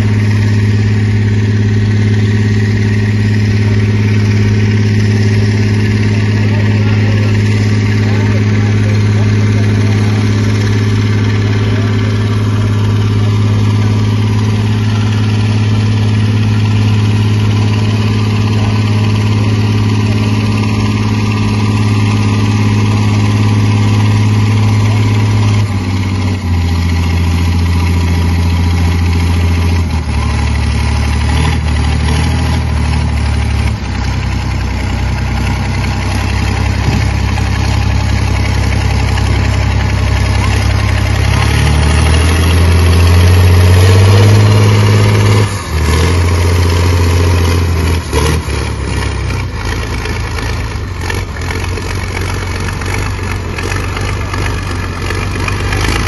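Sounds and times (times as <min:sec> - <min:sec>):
tractor diesel engine running hard: 0:00.0 - 0:56.0.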